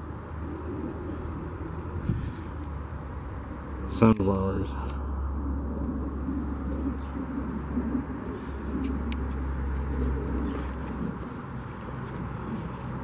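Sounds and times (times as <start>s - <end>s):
soft low bird calls: 0.0s - 12.8s
steady low rumble: 0.0s - 13.0s.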